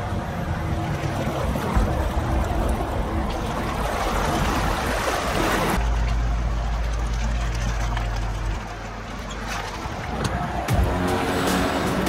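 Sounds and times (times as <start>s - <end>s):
low vehicle rumble: 0.0s - 12.0s
water splashing and sloshing: 0.0s - 12.0s.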